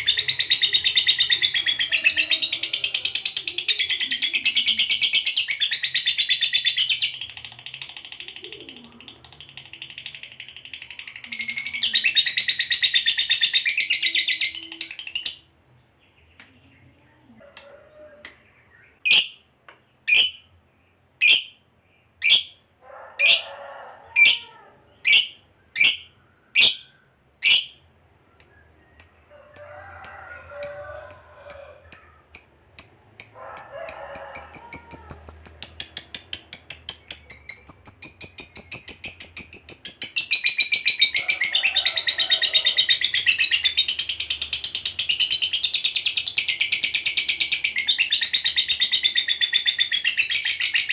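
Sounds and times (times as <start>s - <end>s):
lovebird chattering and chirping: 0.0s - 15.6s, 18.2s - 23.5s, 24.1s - 50.9s.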